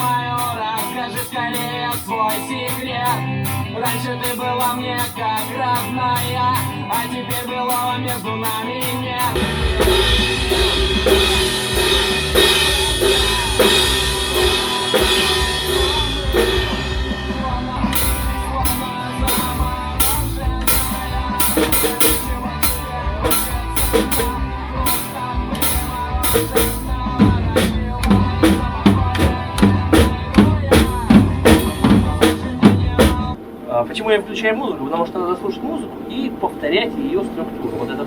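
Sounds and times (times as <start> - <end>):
drum kit hits: 0.0 - 33.4
pop song: 0.0 - 33.4.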